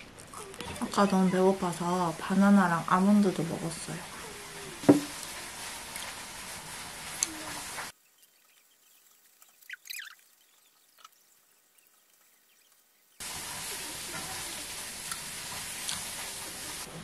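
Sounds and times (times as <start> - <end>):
soft eating sounds: 0.0 - 2.0, 3.0 - 16.9
room hiss: 1.2 - 17.0.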